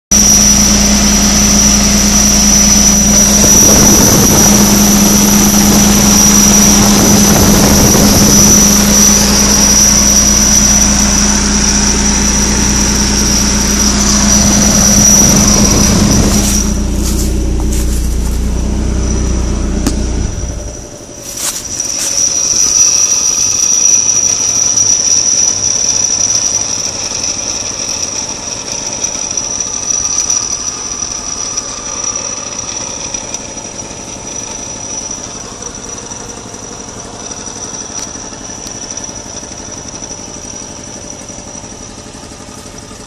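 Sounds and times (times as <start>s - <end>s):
engine running: 0.1s - 43.0s
high-pitched turbo whine: 0.1s - 43.0s.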